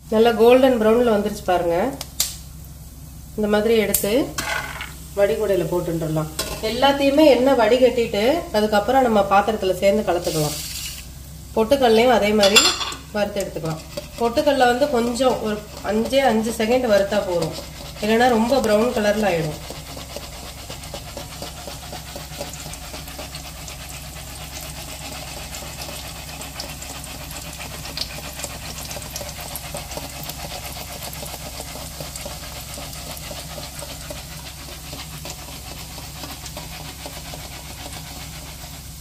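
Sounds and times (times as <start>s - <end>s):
deep-frying sizzle: 0.0s - 39.0s.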